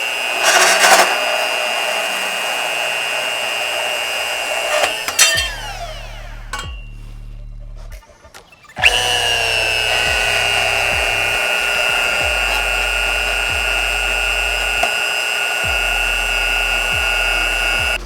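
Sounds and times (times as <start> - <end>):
power tool whining: 0.0 - 7.4, 8.4 - 18.0.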